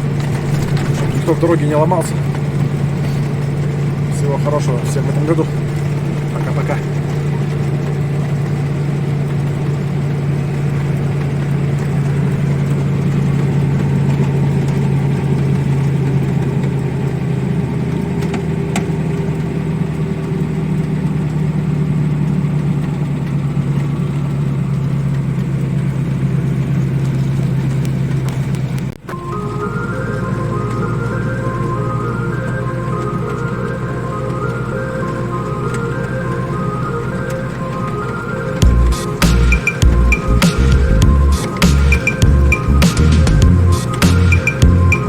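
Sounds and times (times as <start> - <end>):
truck engine running: 0.0 - 45.0.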